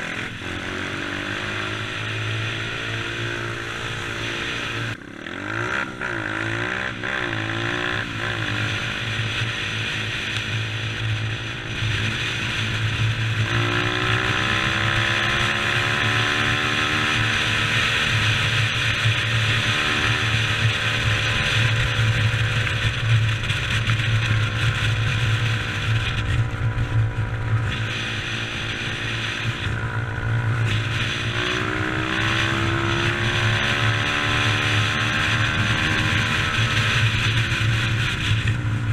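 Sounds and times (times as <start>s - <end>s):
dirt bike engine revving: 0.0s - 22.6s, 27.3s - 38.3s.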